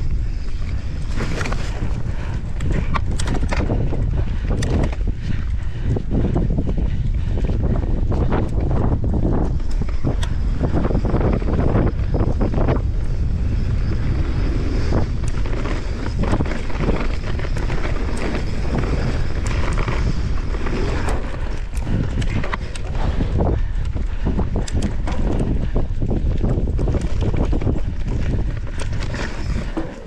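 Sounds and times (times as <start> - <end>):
bike rattling and knocking: 0.0 - 30.0
bike tyre noise: 0.0 - 30.0
wind rushing over microphone: 0.0 - 30.0.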